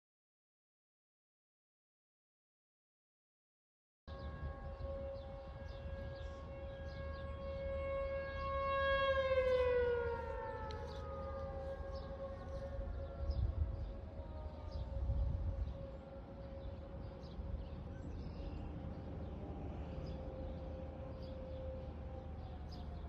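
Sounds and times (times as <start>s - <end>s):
warning siren wailing: 4.1s - 23.0s.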